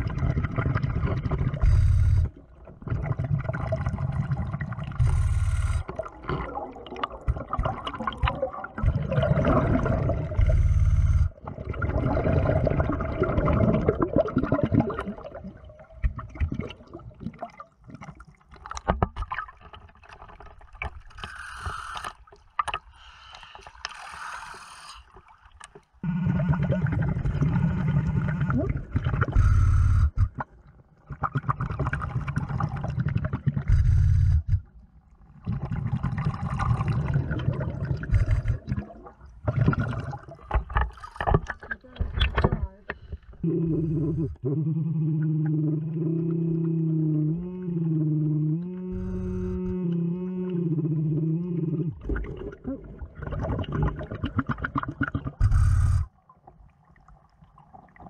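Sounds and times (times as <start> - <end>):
exhaled bubbles rumbling underwater: 0.0 - 21.2, 25.3 - 58.0
water gurgling: 0.0 - 22.9, 23.8 - 58.0
underwater movement noise: 0.0 - 58.0.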